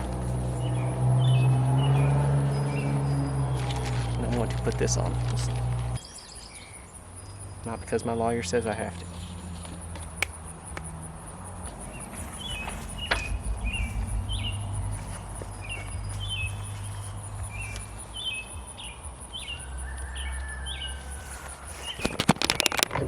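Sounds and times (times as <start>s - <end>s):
high insect trill: 0.0s - 23.0s
songbird chirping: 0.0s - 23.0s.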